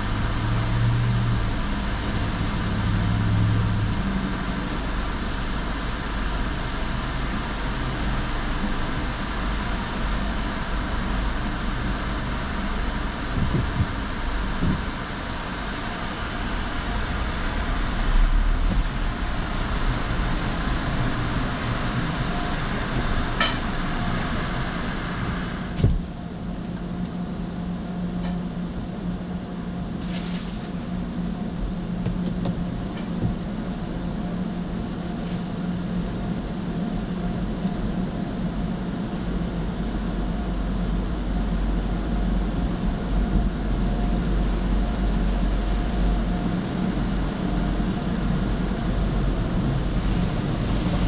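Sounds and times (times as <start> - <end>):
car wash machinery humming: 0.0 - 51.0.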